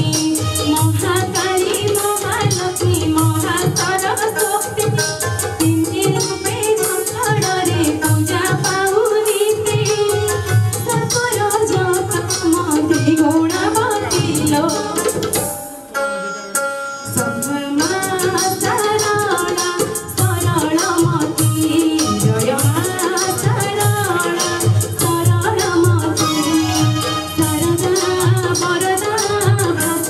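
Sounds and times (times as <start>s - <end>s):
instrumental music with percussion beat: 0.0s - 30.0s
woman singing into microphone: 0.0s - 30.0s.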